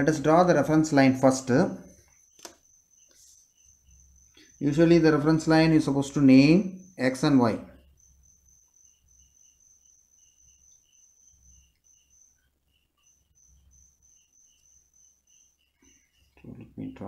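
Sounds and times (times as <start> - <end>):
high-pitched insect-like chirping: 0.0 - 17.0.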